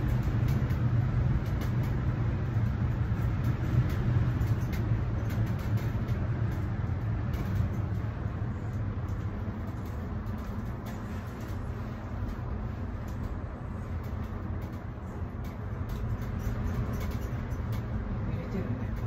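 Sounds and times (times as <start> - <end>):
low rumble and hum in gondola: 0.0 - 19.0.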